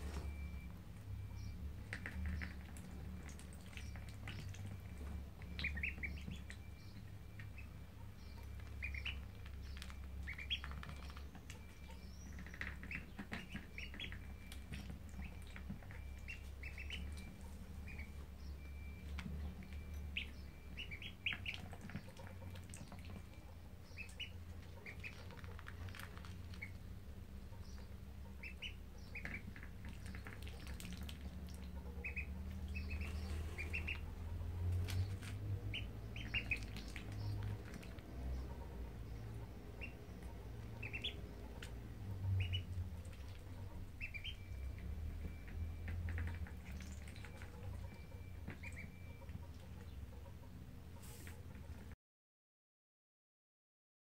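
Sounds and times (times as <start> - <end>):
ducklings peeping: 0.0 - 51.9.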